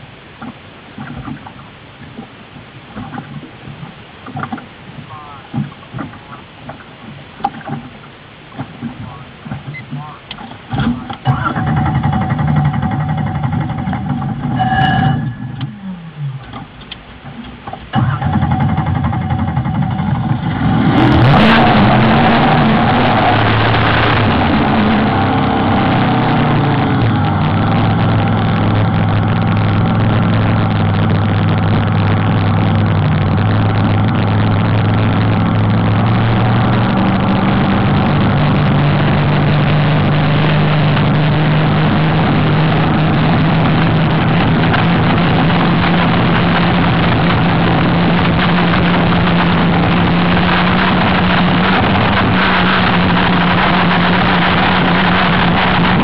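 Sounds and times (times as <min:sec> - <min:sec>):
race boat engine running: 0:02.9 - 0:56.0.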